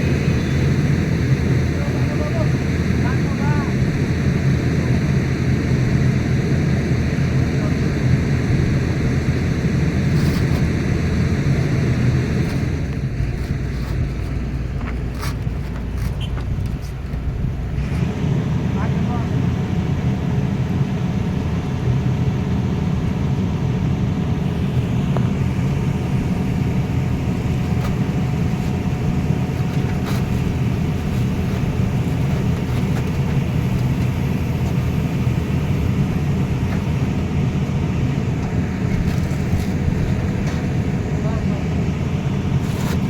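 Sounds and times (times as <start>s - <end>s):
diesel engines droning: 0.0s - 43.0s.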